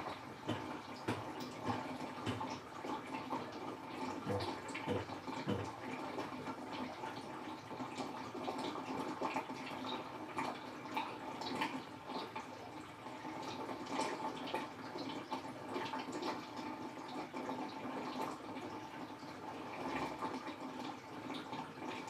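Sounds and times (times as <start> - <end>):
water trickling and dripping: 0.0 - 22.0.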